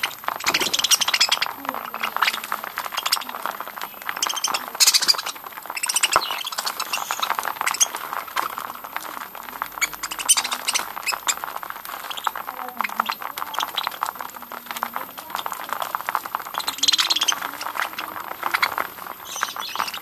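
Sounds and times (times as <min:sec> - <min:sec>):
beaks clicking on seed and dish: 0:00.0 - 0:20.0
budgerigars chattering and chirping: 0:00.0 - 0:20.0.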